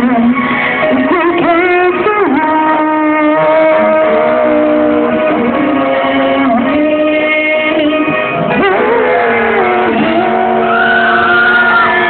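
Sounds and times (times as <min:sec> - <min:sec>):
amplified singing: 0:00.0 - 0:12.0
guitar-led backing music: 0:00.0 - 0:12.0.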